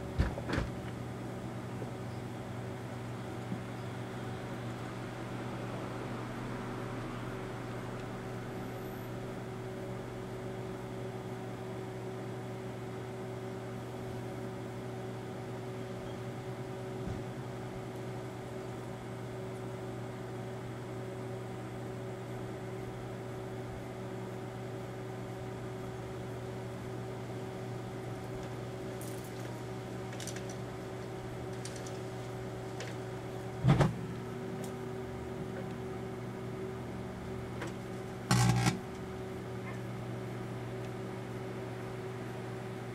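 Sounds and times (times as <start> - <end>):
microwave oven humming: 0.0 - 42.9.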